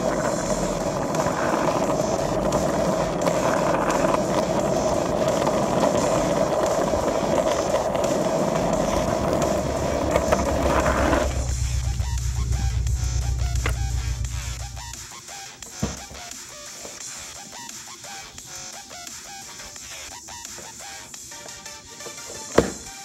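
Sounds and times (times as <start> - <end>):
music: 0.0 - 23.0
skateboard wheels rolling on asphalt: 0.0 - 23.0.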